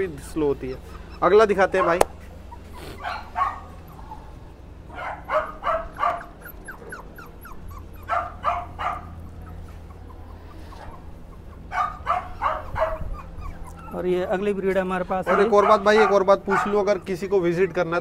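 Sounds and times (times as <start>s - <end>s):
puppies yapping: 0.0s - 17.7s
puppies whimpering: 0.0s - 18.0s.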